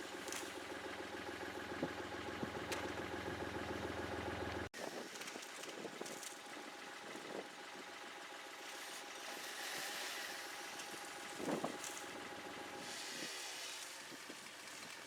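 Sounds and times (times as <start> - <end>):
engine idling: 0.0 - 4.7, 5.7 - 14.3.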